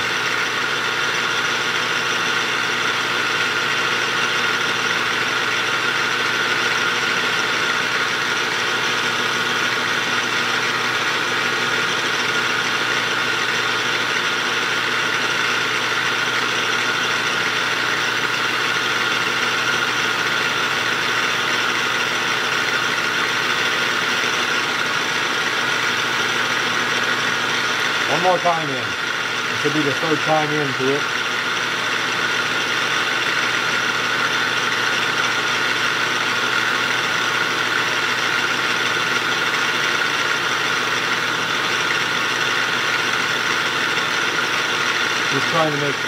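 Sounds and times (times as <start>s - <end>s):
metal lathe humming: 0.0s - 46.0s
tool cutting workpiece: 0.0s - 46.0s.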